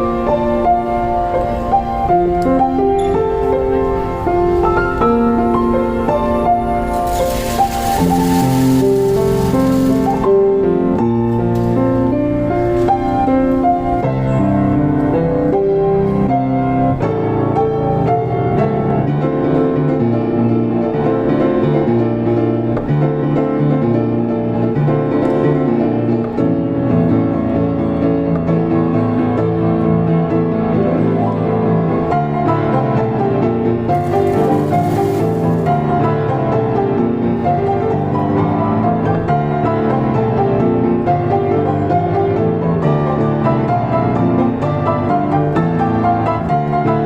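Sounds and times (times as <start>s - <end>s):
solo piano playing: 0.0s - 47.0s.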